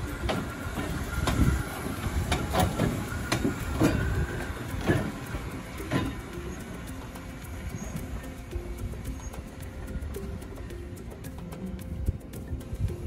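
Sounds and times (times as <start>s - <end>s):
locomotive rolling with low rumble: 0.0s - 13.0s
wheels clacking over rail joints: 0.0s - 13.0s.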